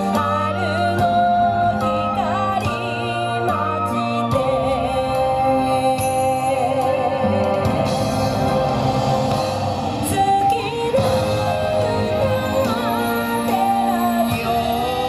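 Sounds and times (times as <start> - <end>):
dance song over loudspeakers: 0.0 - 15.0.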